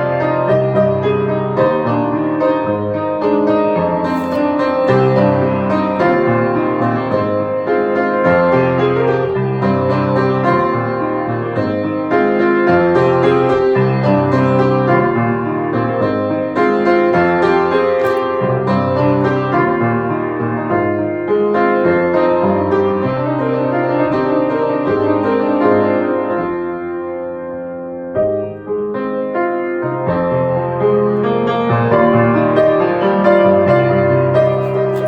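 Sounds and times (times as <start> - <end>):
piano chords: 0.0 - 35.0.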